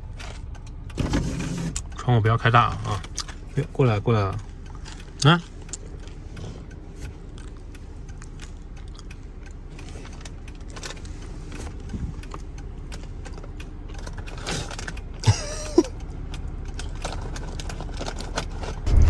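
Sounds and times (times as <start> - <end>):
car road and engine rumble: 0.0 - 19.0
rattles in car cabin: 0.0 - 19.0.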